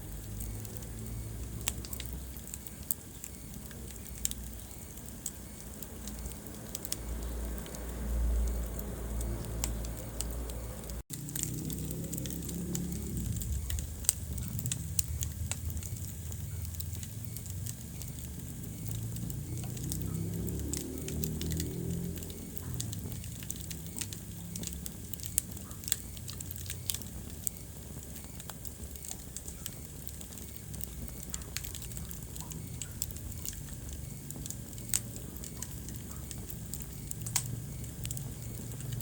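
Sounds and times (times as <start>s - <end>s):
fire crackles and pops: 0.0s - 39.0s
wood fire burning: 0.0s - 39.0s.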